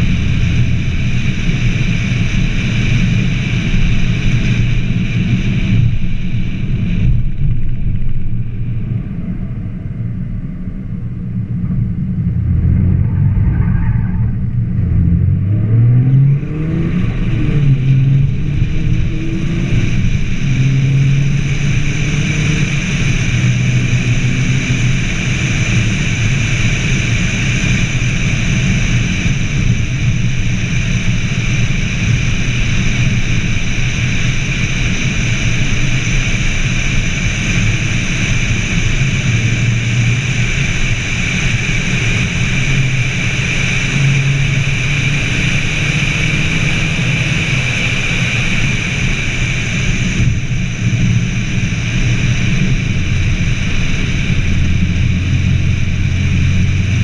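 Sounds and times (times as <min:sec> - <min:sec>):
car engine cruising: 0:00.0 - 0:57.0
wind and road noise: 0:00.0 - 0:57.0.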